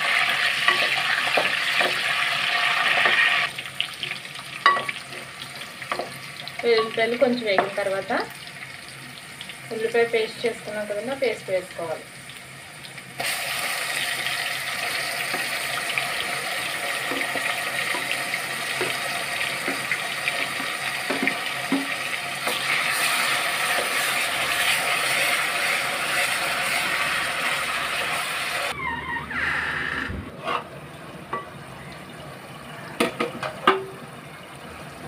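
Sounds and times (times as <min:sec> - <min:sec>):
onion paste sizzling in oil: 0:00.0 - 0:28.8.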